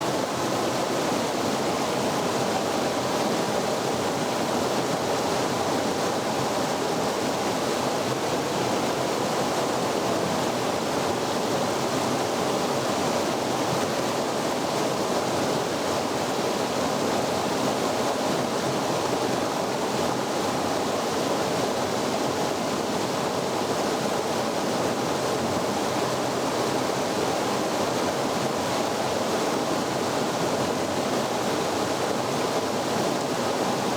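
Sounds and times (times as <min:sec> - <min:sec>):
water rushing over waterfall: 0:00.1 - 0:33.9.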